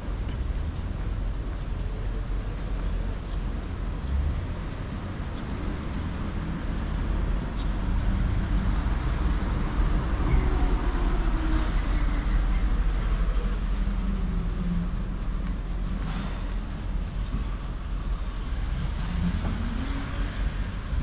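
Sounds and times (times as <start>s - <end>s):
low traffic rumble: 0.0s - 21.0s.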